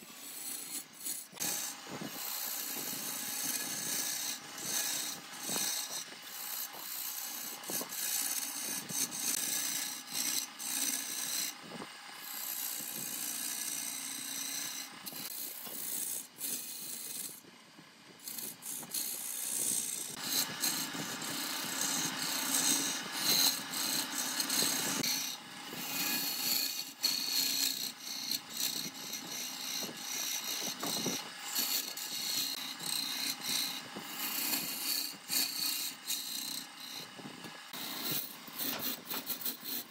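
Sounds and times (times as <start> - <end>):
tool rasping on wood: 0.0 - 17.5, 18.2 - 39.9.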